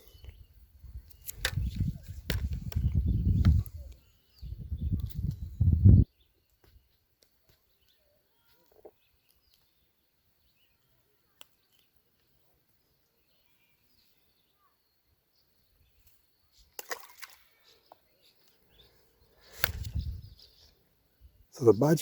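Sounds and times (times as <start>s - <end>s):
distant bird chirps: 0.0s - 22.0s.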